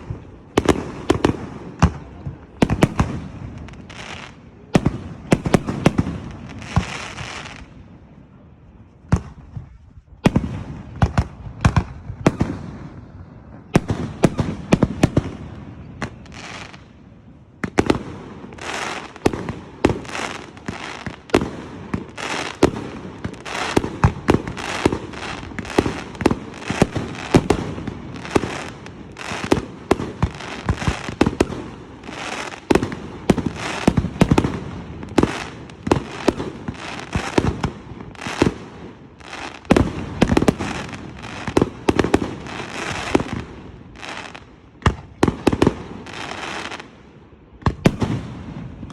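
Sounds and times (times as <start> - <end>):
fireworks bangs and cracks: 0.0 - 8.1, 8.8 - 48.9.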